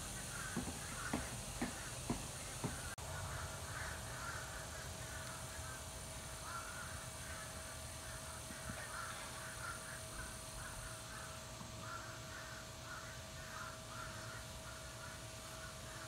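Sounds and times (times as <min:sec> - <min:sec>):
birds cawing: 0:00.0 - 0:16.0.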